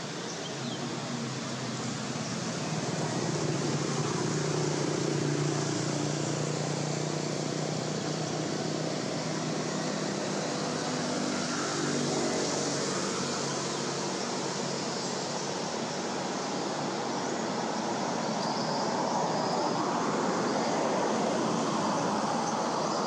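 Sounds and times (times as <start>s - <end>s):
low engine hum: 0.1s - 23.0s.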